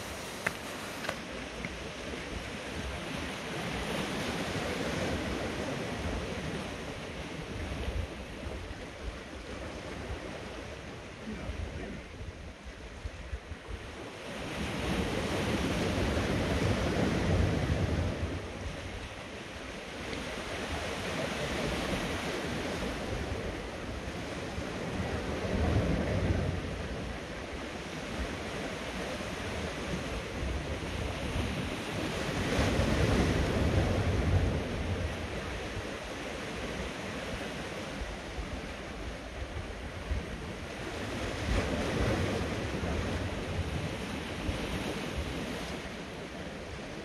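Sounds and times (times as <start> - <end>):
sea surf washing over rocks: 0.0 - 47.0.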